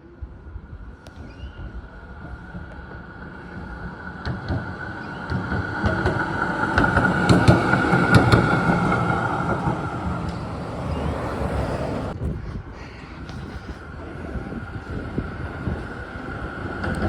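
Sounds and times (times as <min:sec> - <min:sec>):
tram running with whine: 0:00.0 - 0:17.0.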